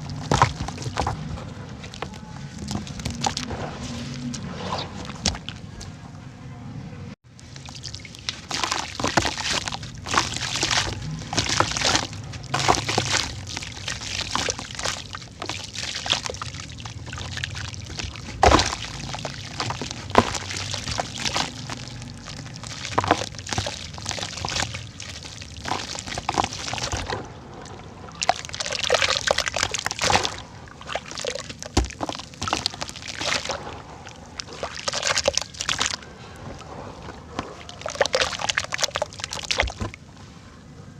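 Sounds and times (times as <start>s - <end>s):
dirt crumbling in water: 0.0s - 6.0s, 7.4s - 40.1s
sharp knocks and crunches: 0.0s - 6.1s, 7.4s - 40.1s
water sloshing and splashing: 0.0s - 6.3s, 7.3s - 40.4s.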